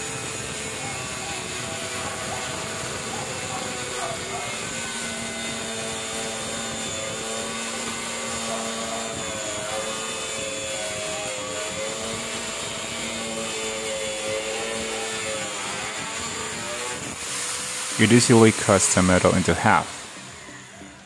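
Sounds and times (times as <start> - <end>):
angle grinder cutting metal: 0.0 - 21.0.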